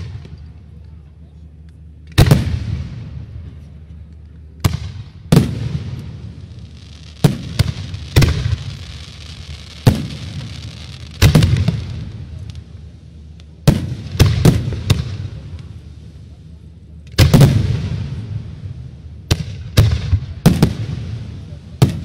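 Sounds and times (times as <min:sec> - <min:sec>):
firework bursts with rumble: 0:00.0 - 0:01.0, 0:01.8 - 0:22.0.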